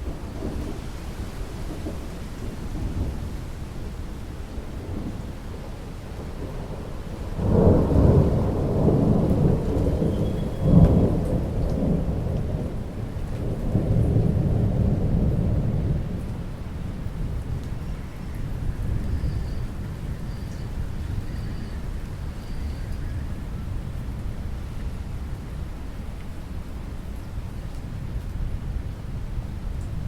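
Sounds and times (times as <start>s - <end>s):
thunder rumbling: 0.0s - 24.3s
rain falling: 0.0s - 30.0s.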